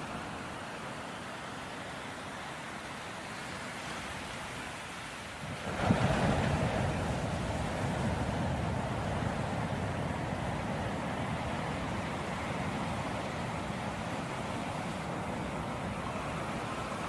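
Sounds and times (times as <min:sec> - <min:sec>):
ocean waves washing in: 0:00.0 - 0:17.0.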